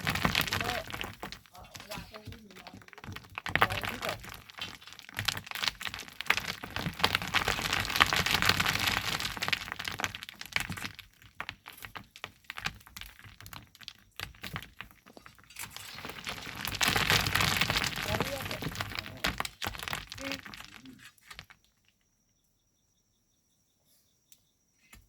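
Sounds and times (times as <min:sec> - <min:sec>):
sand and stones crunching: 0:00.0 - 0:21.6.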